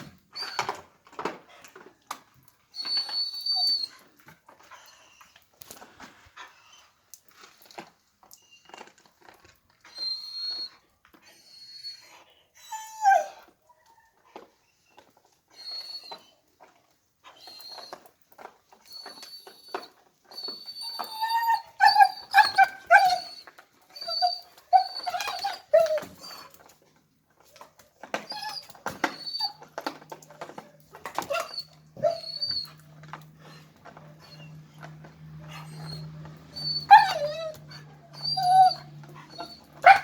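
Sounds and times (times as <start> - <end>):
dog whining and yelping: 0.0 - 5.8, 8.4 - 40.0.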